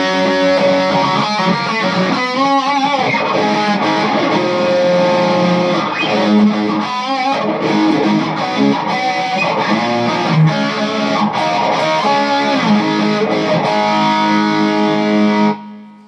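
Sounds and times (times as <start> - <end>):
electric guitar licks: 0.0 - 16.0.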